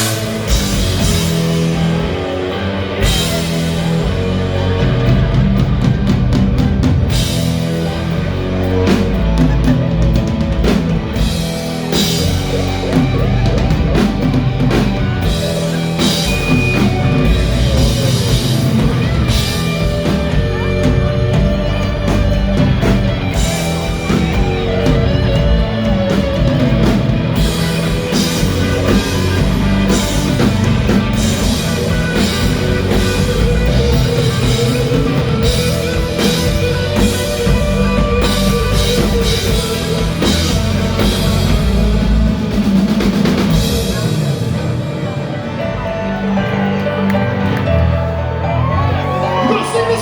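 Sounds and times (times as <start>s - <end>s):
drum kit: 0.0s - 50.0s
electric guitar: 0.0s - 50.0s.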